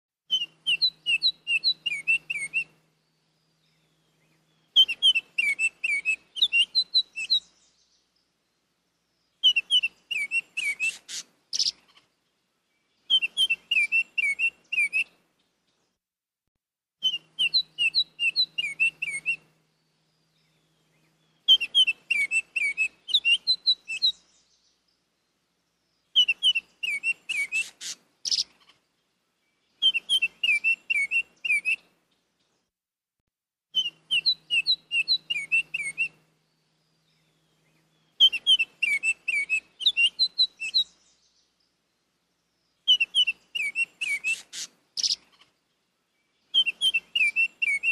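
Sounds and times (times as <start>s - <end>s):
bird singing whistled notes: 0.3s - 8.6s, 9.2s - 11.8s, 12.8s - 15.2s, 17.0s - 28.6s, 29.5s - 31.9s, 33.7s - 45.4s, 46.1s - 47.9s.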